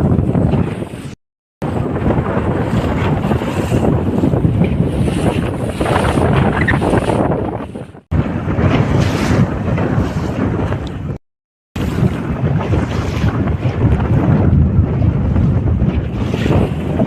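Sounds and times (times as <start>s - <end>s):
boat rushing through choppy sea: 0.0s - 11.2s, 11.8s - 17.0s
wind buffeting microphone: 0.0s - 11.2s, 11.8s - 17.0s.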